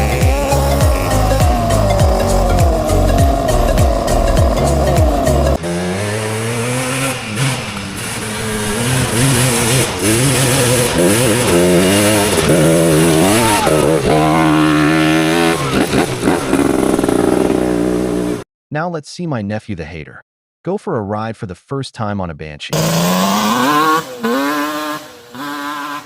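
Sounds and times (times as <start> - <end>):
two-stroke atv engine revving: 0.0 - 18.4, 22.8 - 26.0.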